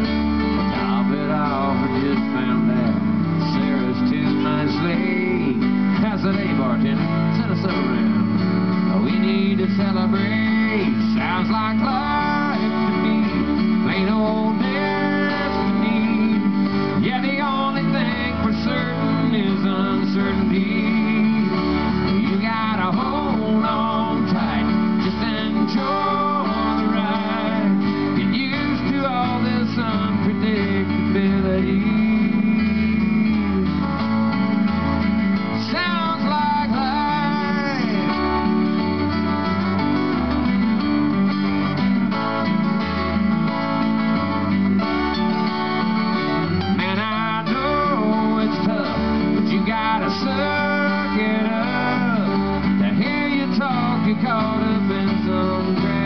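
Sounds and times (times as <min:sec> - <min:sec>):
bass line: 0:00.0 - 0:56.0
lead guitar melody: 0:00.0 - 0:56.0
strummed acoustic guitar: 0:00.0 - 0:56.0.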